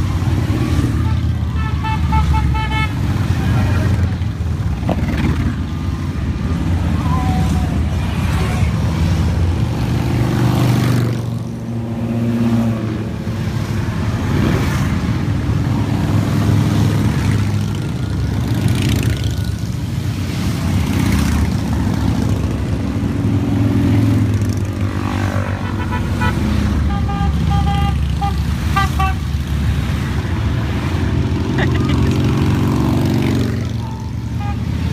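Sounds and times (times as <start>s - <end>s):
motorcycles riding past: 0.0s - 34.9s.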